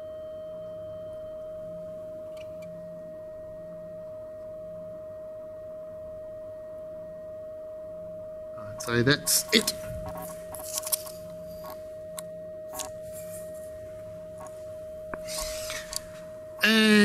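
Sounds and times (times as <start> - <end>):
steady sine tone: 0.0 - 17.0.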